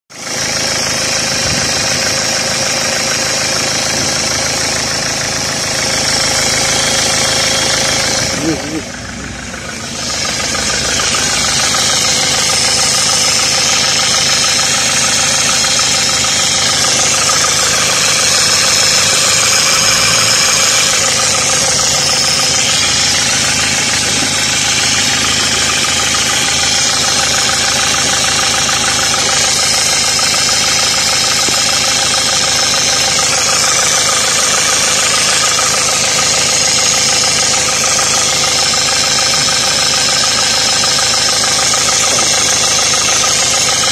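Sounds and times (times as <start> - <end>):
car engine idling: 0.1 - 43.9
high-pitched engine whine: 0.1 - 43.9.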